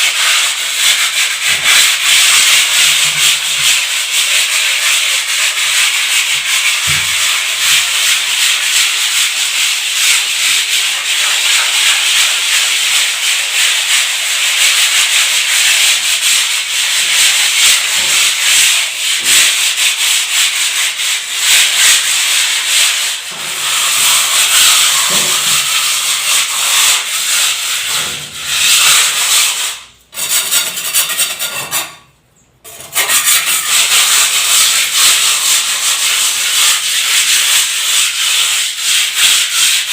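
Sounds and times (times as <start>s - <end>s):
abrasive rubbing on hard surface: 0.0s - 32.1s, 32.7s - 39.9s.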